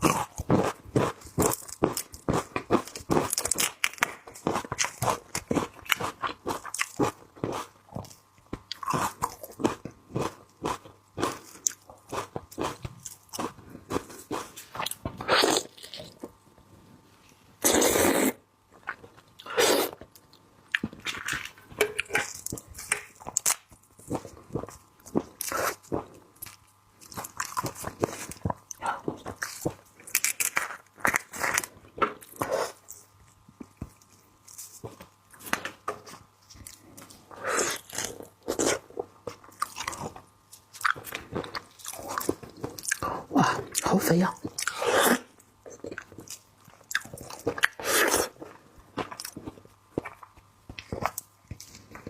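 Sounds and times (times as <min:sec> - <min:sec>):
crunching and chewing food: 0:00.0 - 0:16.6, 0:18.7 - 0:52.0.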